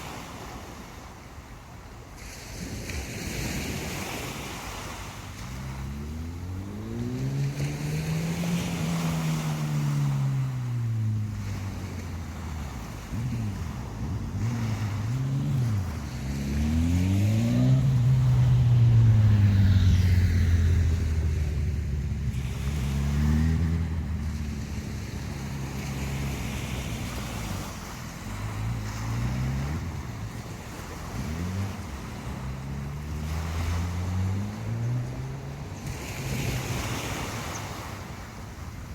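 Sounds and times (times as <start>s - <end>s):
waves washing: 0.0s - 38.9s
passing vehicle engine: 2.2s - 38.9s.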